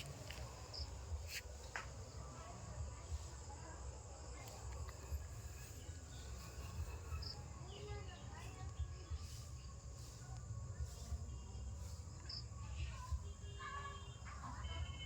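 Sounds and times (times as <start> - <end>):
crickets chirring: 0.0 - 9.9, 10.9 - 14.2.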